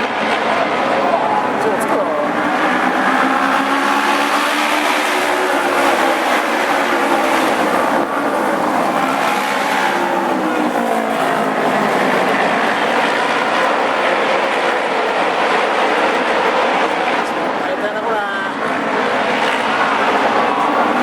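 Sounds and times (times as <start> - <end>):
racing motorcycle engines: 0.0 - 21.0.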